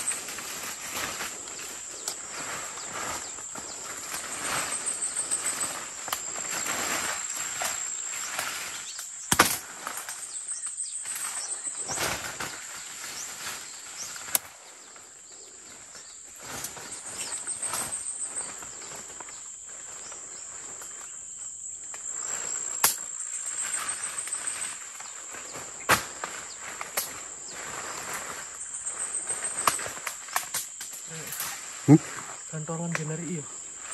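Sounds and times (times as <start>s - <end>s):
footsteps through leafy undergrowth: 0.0s - 9.0s, 9.6s - 30.4s
high insect drone: 0.0s - 33.9s
leaves and stems rustling: 0.0s - 33.9s.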